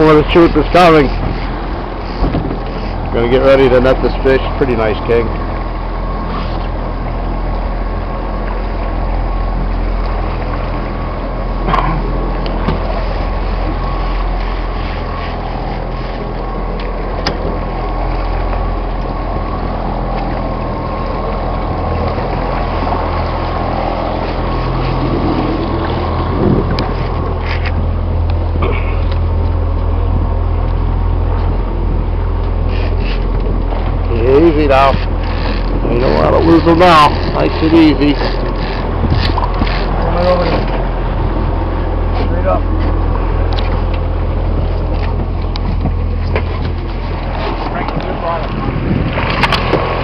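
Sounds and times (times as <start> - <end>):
boat engine running: 0.0 - 50.0
water washing: 0.0 - 50.0.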